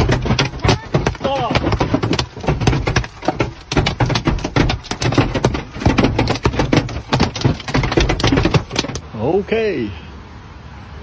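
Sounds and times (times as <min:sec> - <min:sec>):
rapid cracking and knocking: 0:00.0 - 0:09.0.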